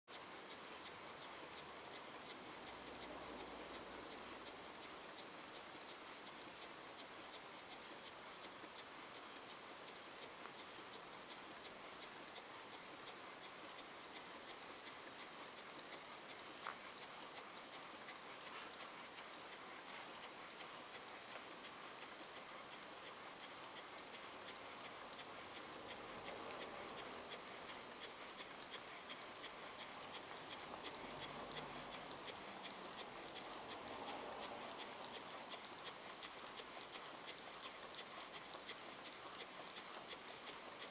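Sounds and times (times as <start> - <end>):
model engine light ticking: 0.1 - 40.9
soft airy hiss: 0.1 - 40.9.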